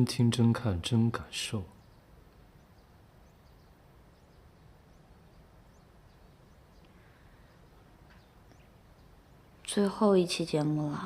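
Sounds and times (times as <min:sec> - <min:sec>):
faint background hiss: 0:00.0 - 0:11.0
faint high chirps: 0:01.4 - 0:11.0.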